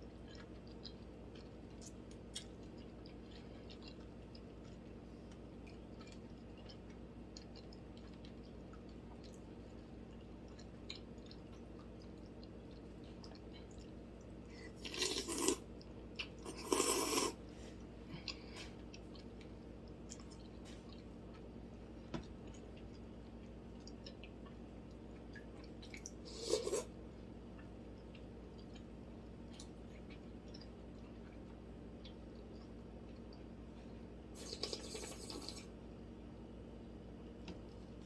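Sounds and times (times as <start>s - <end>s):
quiet chewing: 0.0s - 36.4s
loud eating noises: 0.1s - 21.6s, 22.4s - 35.8s.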